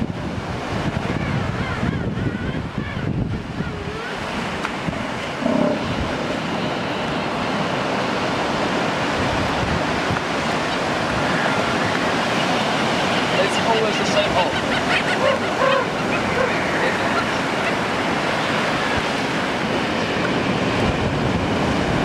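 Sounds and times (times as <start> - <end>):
wind on microphone: 0.0 - 13.5, 14.2 - 22.0
ocean surf breaking on beach: 0.0 - 22.0.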